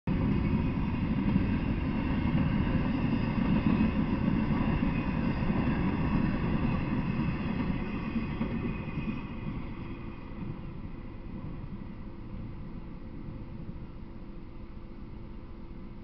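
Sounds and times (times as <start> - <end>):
freight train wheels rumbling: 0.1 - 16.0.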